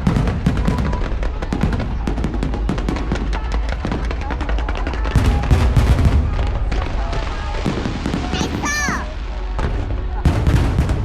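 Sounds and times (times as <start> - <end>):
deep firework booms: 0.0 - 11.0
fireworks cracking and crackling: 0.0 - 11.0.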